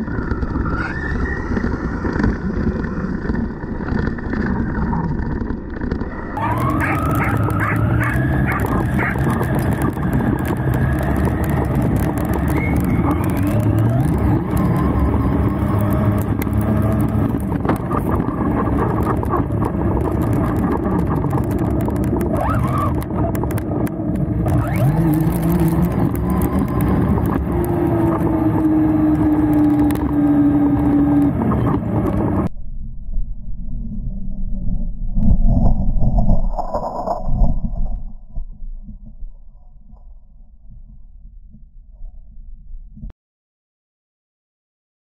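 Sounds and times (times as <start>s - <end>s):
wheels rumbling and scraping: 0.0s - 42.2s.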